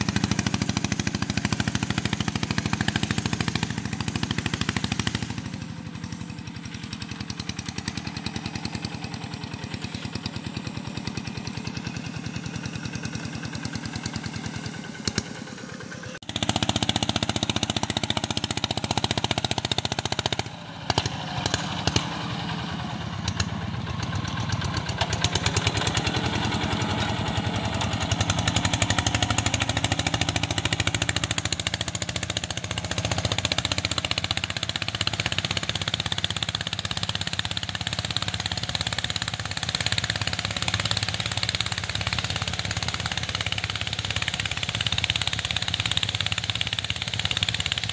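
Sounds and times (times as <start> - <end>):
diesel tractor engine running: 0.0 - 47.9.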